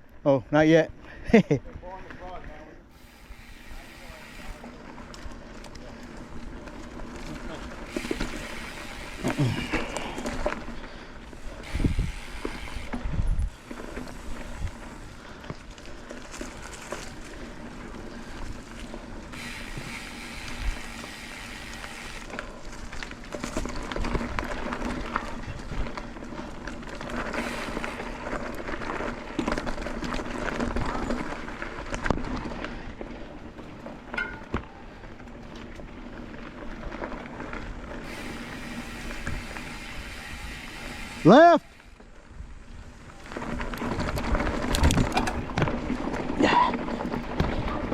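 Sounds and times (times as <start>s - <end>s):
bike tyres rolling over dirt: 0.0s - 47.9s.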